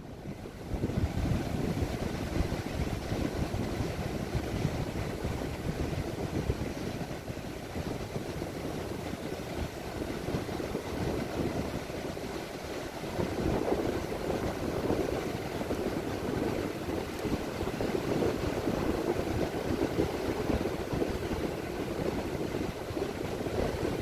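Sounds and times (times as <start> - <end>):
wind buffeting microphone: 0.0 - 24.0
breaking surf: 0.7 - 24.0.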